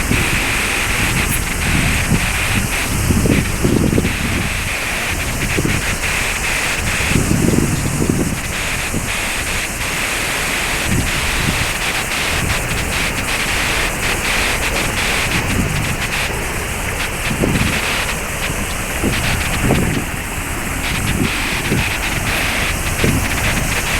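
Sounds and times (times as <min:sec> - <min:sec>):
waterfall roaring: 0:00.0 - 0:23.9
wind buffeting microphone: 0:00.0 - 0:23.9.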